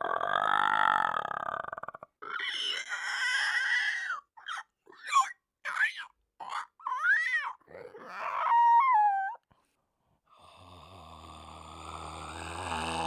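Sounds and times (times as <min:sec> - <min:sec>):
man growling and squealing: 0:00.0 - 0:09.3, 0:11.6 - 0:13.0.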